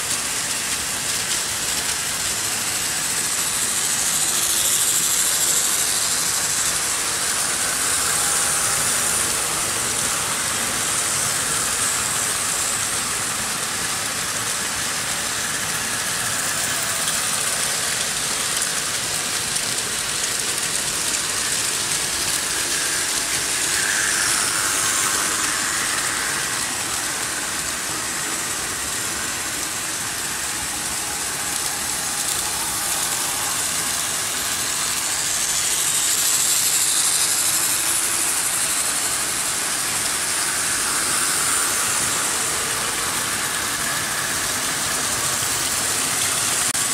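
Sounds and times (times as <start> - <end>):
model trains running on metal track: 0.0 - 46.9.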